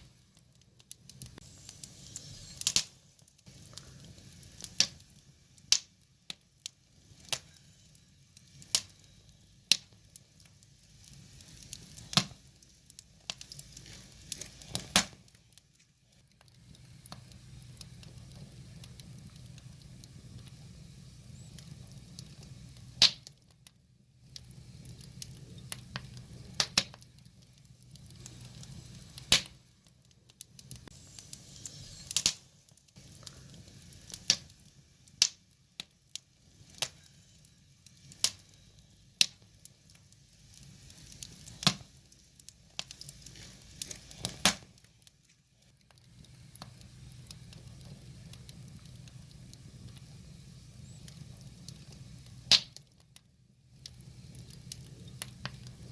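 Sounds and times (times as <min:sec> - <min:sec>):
firewood crackling and popping: 0:00.0 - 0:55.9
low steady fire noise: 0:00.0 - 0:55.9.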